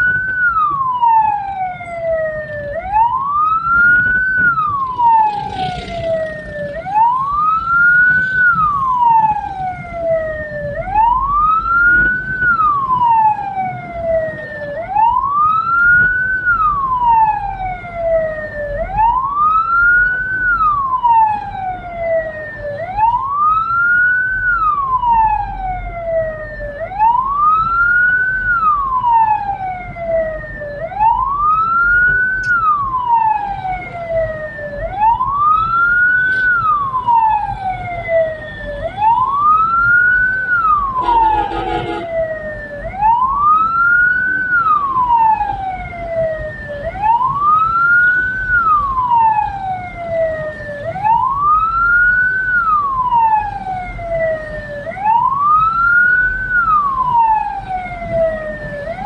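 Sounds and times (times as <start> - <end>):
electronic siren wailing: 0.0 - 59.0
engine and road rumble: 0.0 - 59.0.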